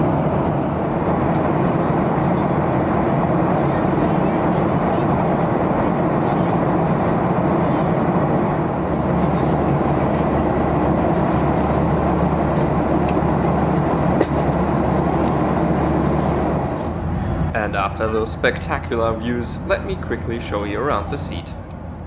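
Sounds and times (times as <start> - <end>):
airplane cabin noise: 0.0 - 22.0.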